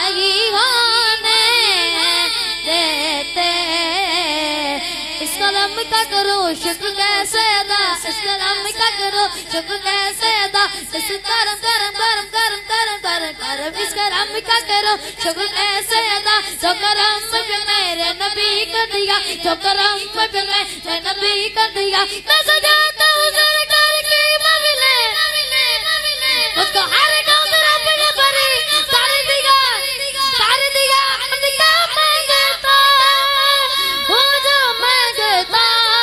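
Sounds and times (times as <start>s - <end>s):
boy singing into microphone: 0.0s - 36.0s.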